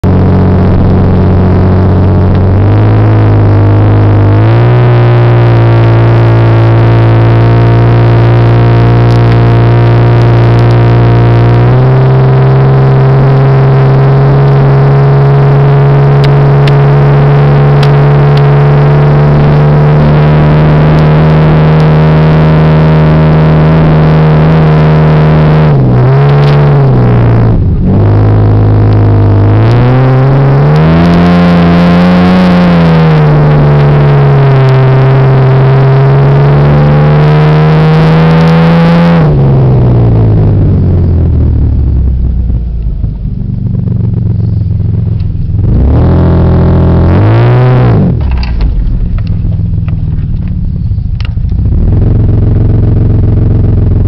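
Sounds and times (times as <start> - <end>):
truck engine labouring uphill: 0.0 - 54.0.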